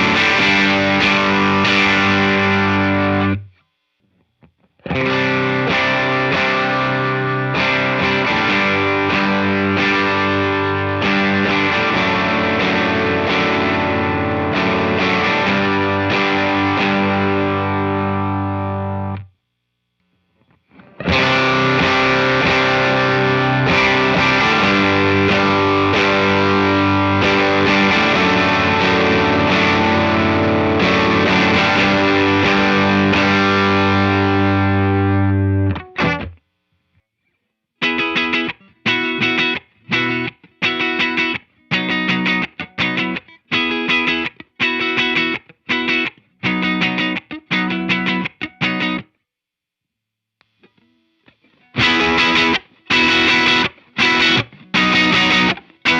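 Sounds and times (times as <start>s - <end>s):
overdriven electric guitar riff: 0.0s - 3.7s, 4.4s - 19.4s, 20.4s - 36.4s, 37.8s - 49.1s, 50.5s - 55.9s.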